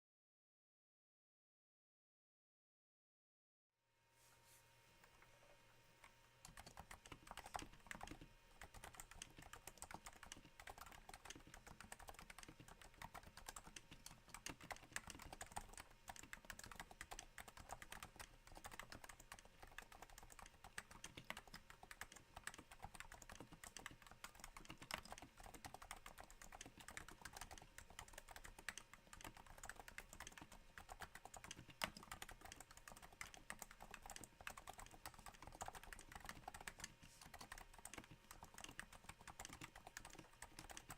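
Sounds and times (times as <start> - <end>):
soft keyboard typing: 6.0 - 40.9.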